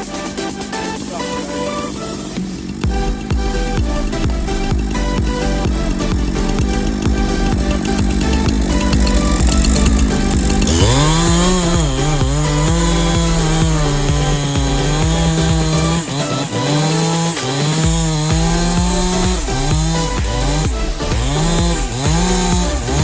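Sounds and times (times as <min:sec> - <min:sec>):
background music: 0:00.0 - 0:23.0
chainsaw cutting: 0:00.0 - 0:23.0.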